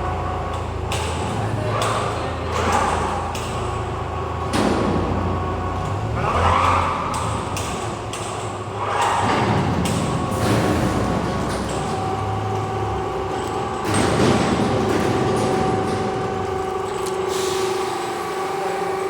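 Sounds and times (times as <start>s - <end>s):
furnace low hum: 0.0s - 19.0s.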